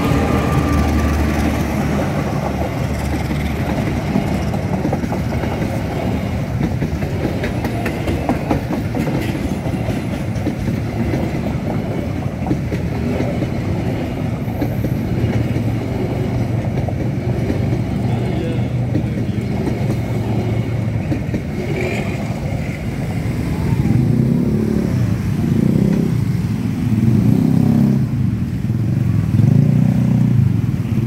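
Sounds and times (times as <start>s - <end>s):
train wheels clickety-clack: 0.0s - 28.2s
diesel locomotive rumble: 0.0s - 31.0s.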